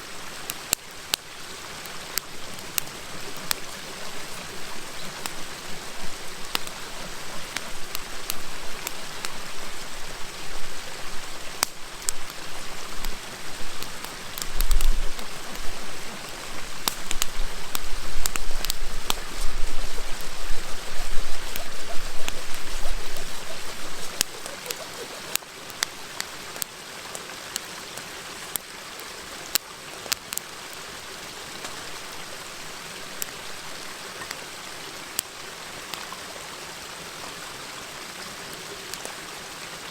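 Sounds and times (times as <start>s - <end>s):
campfire crackling and popping: 0.0s - 34.4s, 35.0s - 36.2s
river flowing: 0.0s - 39.9s.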